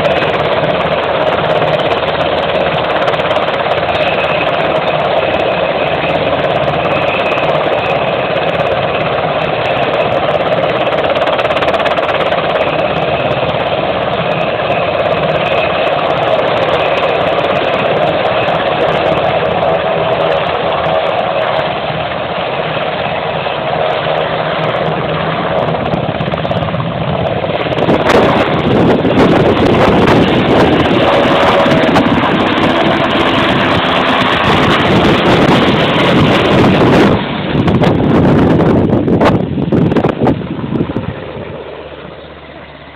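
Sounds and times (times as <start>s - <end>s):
helicopter rotors turning: 0.0s - 42.9s
high turbine whine: 0.0s - 42.9s.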